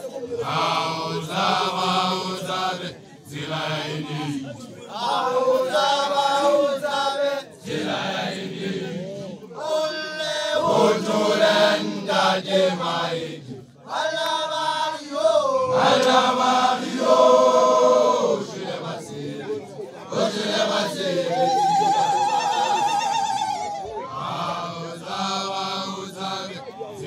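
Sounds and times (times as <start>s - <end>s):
group chanting in unison: 0.0s - 22.0s, 23.8s - 27.0s.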